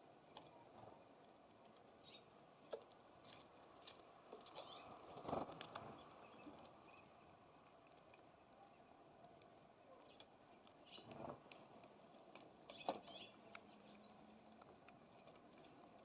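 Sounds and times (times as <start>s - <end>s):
birds pecking at wooden feeder: 0.0s - 16.0s.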